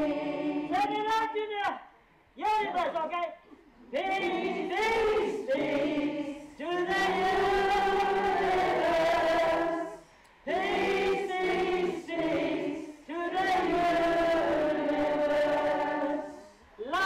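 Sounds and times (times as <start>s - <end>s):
crowd singing: 0.0s - 1.0s, 3.9s - 17.0s.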